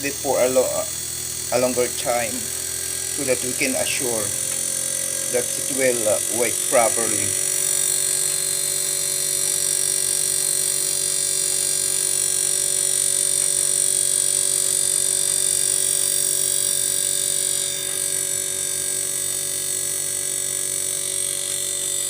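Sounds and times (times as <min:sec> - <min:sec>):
air conditioner compressor hum: 0:00.0 - 0:22.0
high electrical whine: 0:00.0 - 0:22.0.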